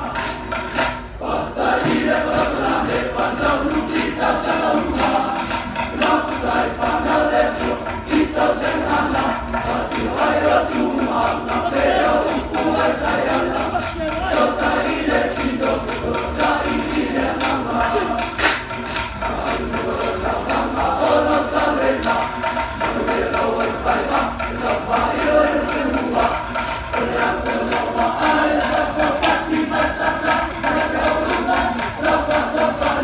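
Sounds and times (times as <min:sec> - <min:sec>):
sharp percussive beat: 0:00.0 - 0:33.0
men singing in unison: 0:01.2 - 0:18.4, 0:19.2 - 0:33.0.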